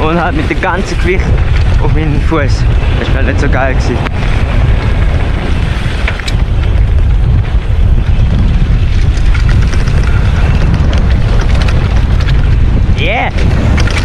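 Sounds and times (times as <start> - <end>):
bike rattling over trail: 0.0 - 14.0
steady rumble: 0.0 - 14.0
wind buffeting microphone: 0.0 - 14.0.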